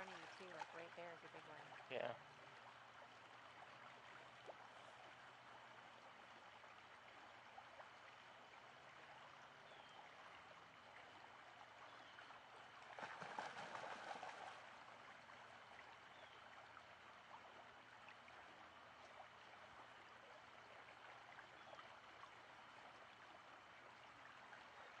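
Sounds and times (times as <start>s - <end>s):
creek water flowing: 0.0s - 25.0s.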